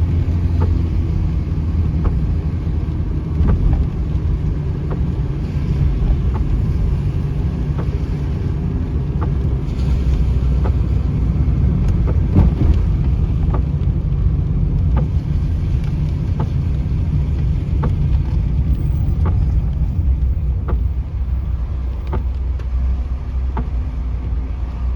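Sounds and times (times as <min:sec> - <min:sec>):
vehicle rumbling: 0:00.0 - 0:24.9
light ticks: 0:00.2 - 0:24.4.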